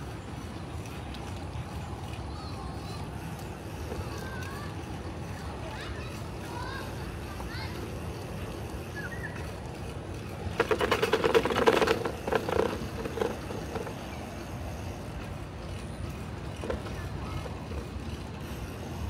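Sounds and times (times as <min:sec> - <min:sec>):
bicycle rattling over rumble strips: 0:00.0 - 0:19.0
bicycle tyres rolling on asphalt: 0:00.0 - 0:19.0.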